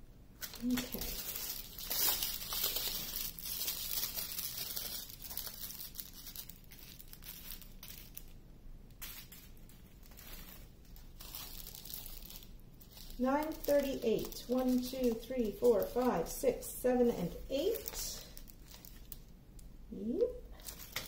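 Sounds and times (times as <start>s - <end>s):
plastic bags crinkling: 0.4s - 8.4s, 9.0s - 21.0s.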